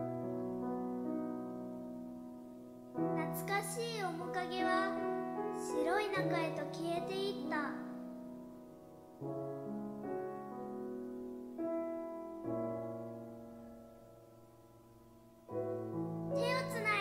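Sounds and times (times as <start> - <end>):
grand piano chords: 0.0 - 17.0
wavering piano melody: 0.0 - 17.0.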